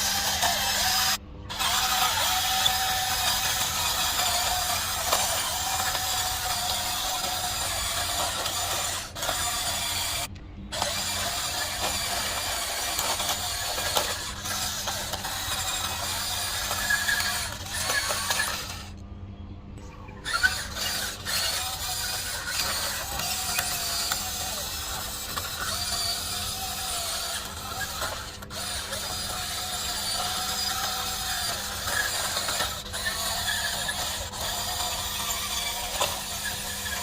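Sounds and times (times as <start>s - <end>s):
toy vehicle motors whirring: 0.0s - 19.0s, 20.1s - 37.0s.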